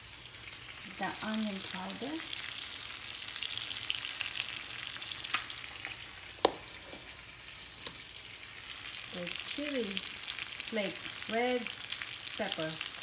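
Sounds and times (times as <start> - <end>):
shrimp sizzling in a pan: 0.0 - 13.0.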